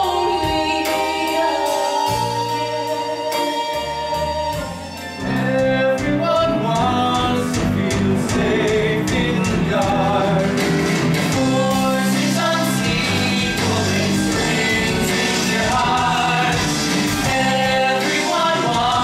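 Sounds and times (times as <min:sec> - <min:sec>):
rock band playing: 0:00.0 - 0:19.0
singers holding notes: 0:00.0 - 0:19.0.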